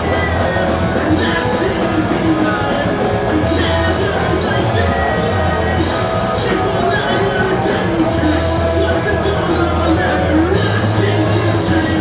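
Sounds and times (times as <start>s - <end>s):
electric guitars and bass: 0.0s - 12.0s
man singing into microphone: 0.0s - 12.0s.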